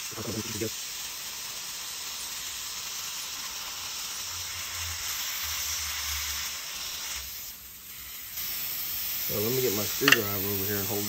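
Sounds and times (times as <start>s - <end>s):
hot air welding gun hissing: 0.0s - 11.0s.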